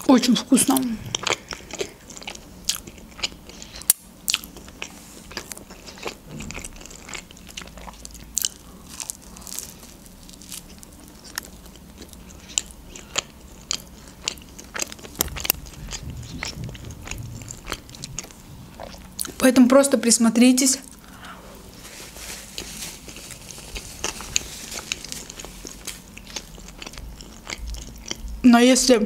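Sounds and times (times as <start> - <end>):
biting and chewing bread roll: 0.7 - 19.4, 22.4 - 28.4
crisp bread crunches: 1.2 - 19.4, 21.8 - 28.2.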